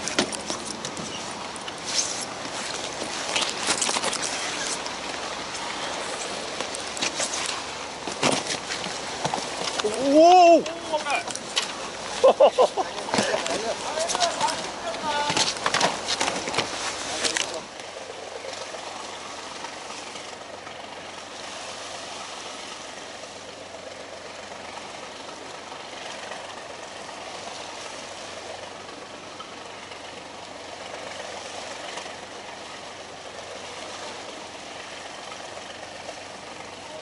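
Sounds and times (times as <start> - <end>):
boat engine idling: 0.0 - 37.0.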